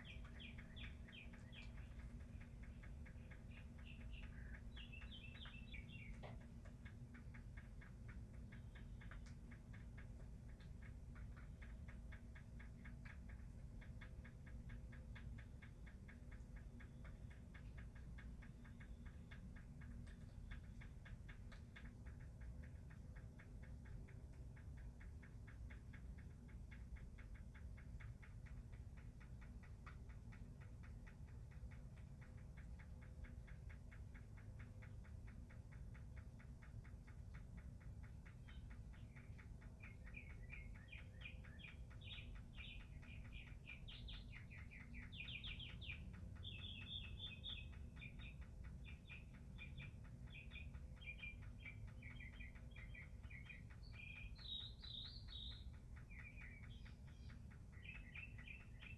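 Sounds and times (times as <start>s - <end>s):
faint bird chirping: 0.0s - 58.9s
fast even ticking: 0.0s - 58.9s
low steady rumble: 0.0s - 58.9s.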